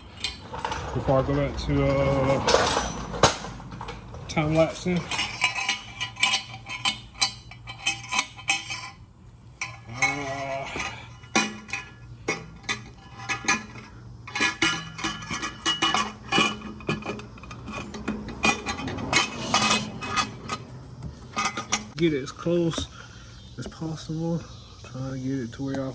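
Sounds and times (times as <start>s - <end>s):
tools clinking against metal: 0.0s - 23.0s.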